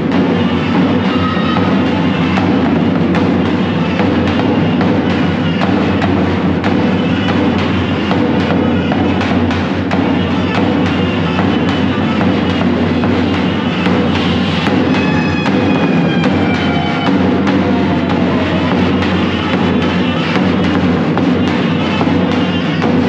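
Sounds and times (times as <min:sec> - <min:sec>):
loud dance music with drum beat: 0:00.0 - 0:23.0.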